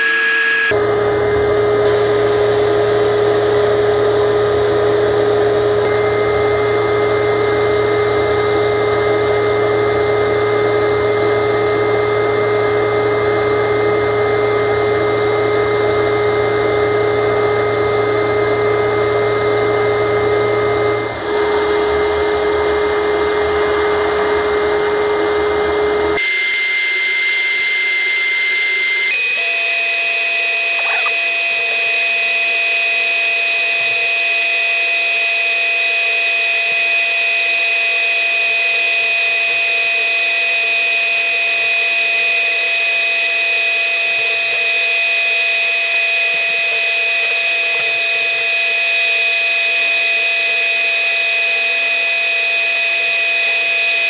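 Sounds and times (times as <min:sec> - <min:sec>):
machine drone: 0:00.0 - 0:52.0.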